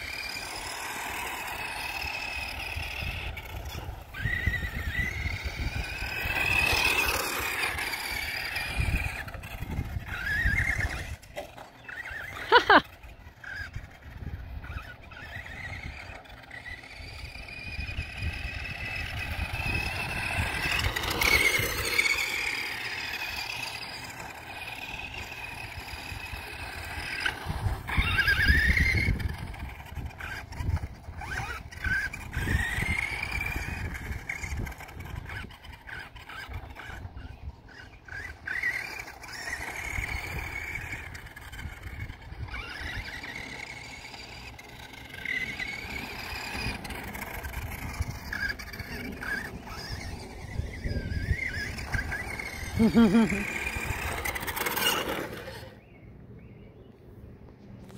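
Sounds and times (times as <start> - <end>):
electric motor whining: 0.0 - 55.8.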